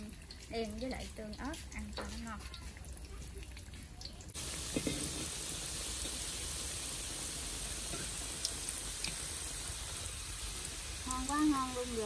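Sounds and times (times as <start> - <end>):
oil popping: 0.0 - 12.0
tofu sizzling in oil: 0.0 - 12.0.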